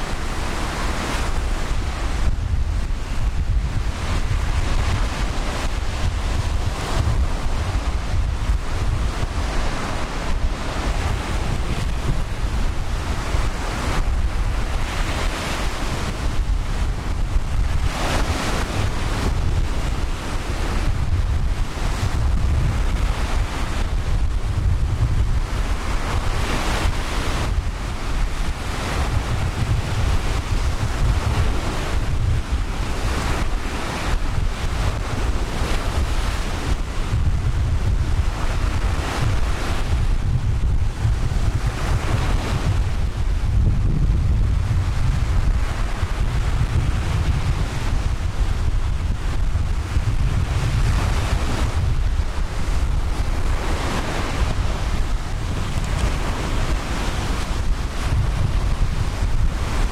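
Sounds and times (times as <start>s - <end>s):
ocean surf washing onto beach: 0.0s - 59.9s
wind buffeting microphone: 0.0s - 59.9s.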